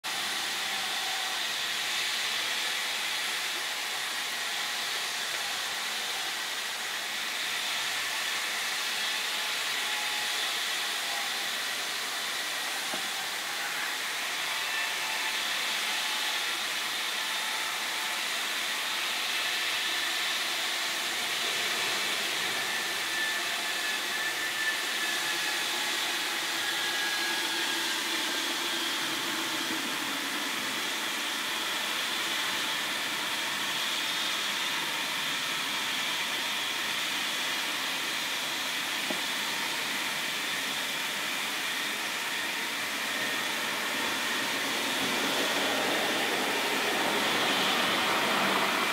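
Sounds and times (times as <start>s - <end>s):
steady outdoor hiss: 0.1s - 48.9s.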